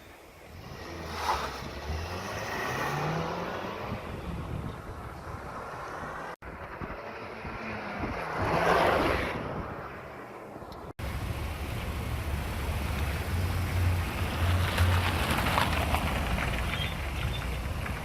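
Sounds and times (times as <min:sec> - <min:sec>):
car engine: 0:00.0 - 0:18.0
road noise: 0:00.0 - 0:18.0
car passing rush: 0:00.4 - 0:18.0.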